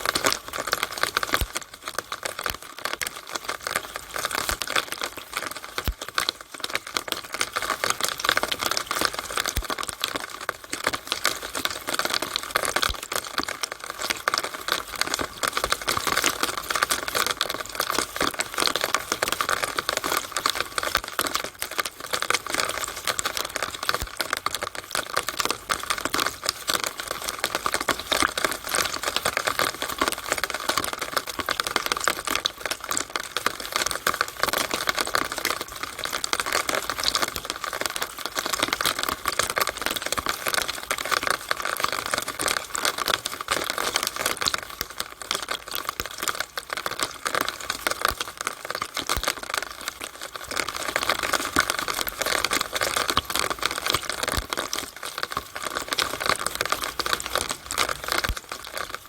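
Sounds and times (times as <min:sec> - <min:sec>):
rainwater dripping from downspout: 0:00.0 - 0:59.0.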